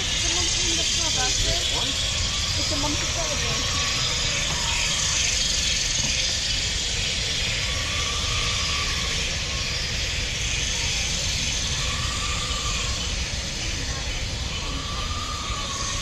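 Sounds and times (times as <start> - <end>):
high hiss: 0.0 - 16.0.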